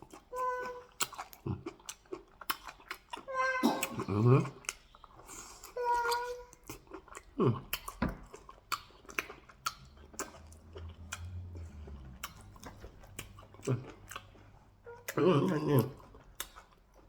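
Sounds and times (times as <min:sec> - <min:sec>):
chewing and wet mouth smacks: 0:00.0 - 0:17.0.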